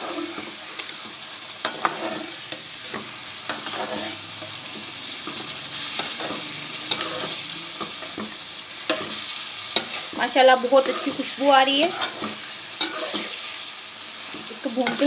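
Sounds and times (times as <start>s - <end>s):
food sizzling in hot oil: 0.0s - 15.0s
spoon scraping a pan: 0.0s - 15.0s.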